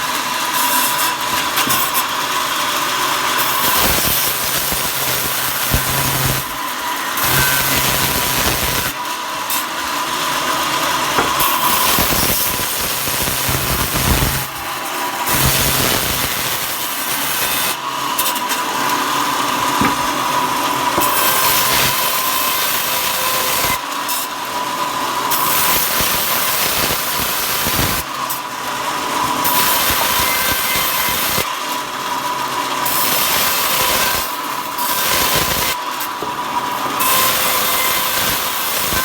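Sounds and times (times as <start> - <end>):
power tool cutting wood: 0.0 - 28.5, 29.2 - 32.2, 32.8 - 39.0.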